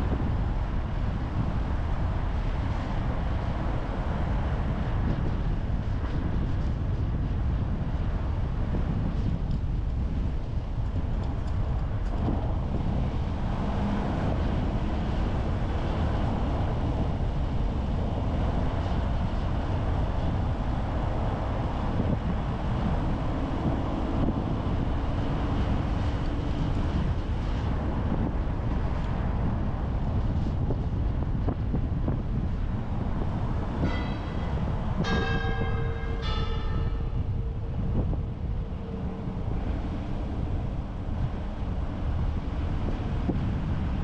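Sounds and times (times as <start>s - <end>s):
car road noise rumble: 0.0s - 44.0s
faint engine hum: 0.0s - 44.0s.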